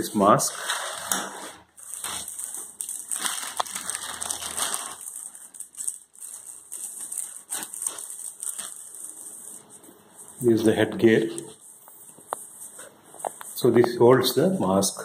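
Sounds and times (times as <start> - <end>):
plastic packaging crinkling: 0.0 - 13.7.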